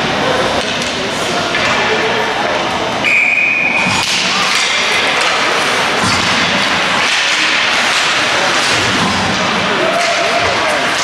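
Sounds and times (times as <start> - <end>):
court bustle: 0.0 - 11.0.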